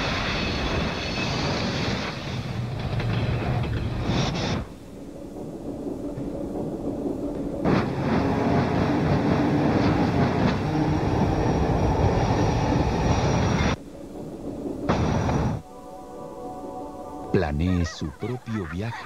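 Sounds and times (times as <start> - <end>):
high-speed train rushing past: 0.0 - 17.5.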